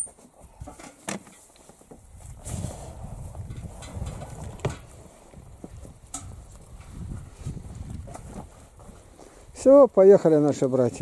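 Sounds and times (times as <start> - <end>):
rustling and shuffling: 0.0 - 11.0.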